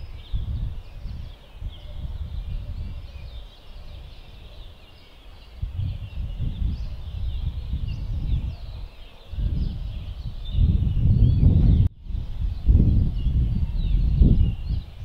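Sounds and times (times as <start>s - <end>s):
small birds chirping: 0.0s - 15.0s
wind rumbling on microphone: 0.0s - 15.0s.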